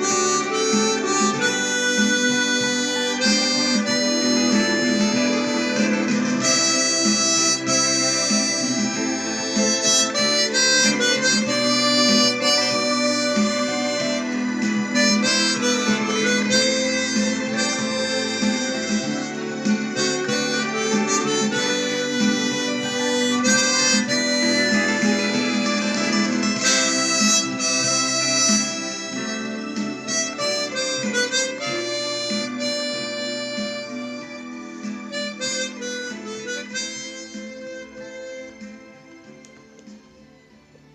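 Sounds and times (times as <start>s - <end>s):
chromatic harmonica melody: 0.0s - 40.2s
backing accompaniment: 0.0s - 40.9s.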